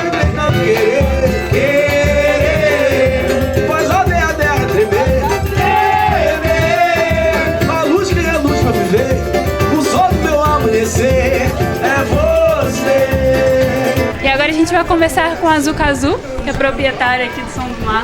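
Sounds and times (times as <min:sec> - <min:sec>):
band with steady percussion: 0:00.0 - 0:14.5
voices singing: 0:00.0 - 0:18.0.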